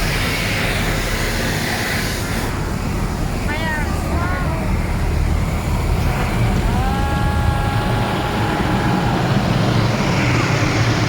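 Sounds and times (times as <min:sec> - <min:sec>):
car wash machine rumble: 0:00.0 - 0:11.0
machine whine: 0:00.0 - 0:11.0.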